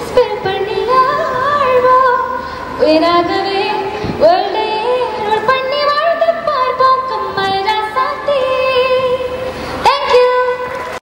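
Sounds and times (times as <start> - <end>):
woman singing into microphone: 0.0 - 10.8.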